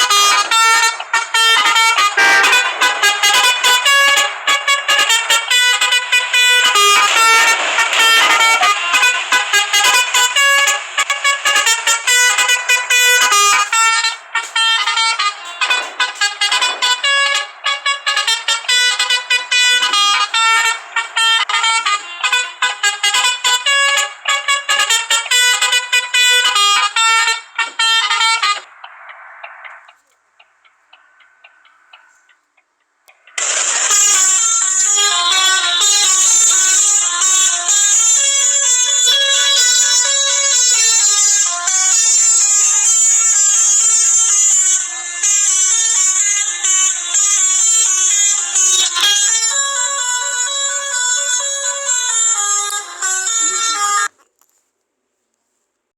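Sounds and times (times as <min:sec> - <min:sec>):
musical bus air horn: 0:00.0 - 0:28.7, 0:33.4 - 0:54.2.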